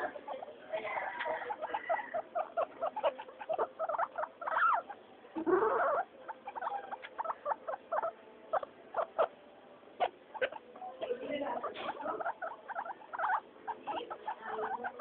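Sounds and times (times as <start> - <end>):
guinea pigs calling: 0.0 - 15.0.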